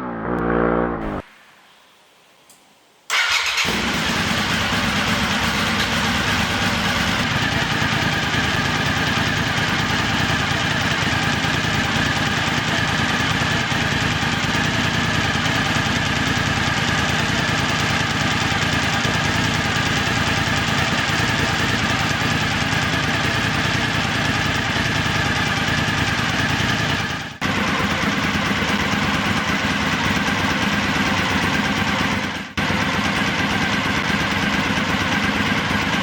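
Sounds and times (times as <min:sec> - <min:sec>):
motorcycle engine starting and idling: 0:03.1 - 0:36.0.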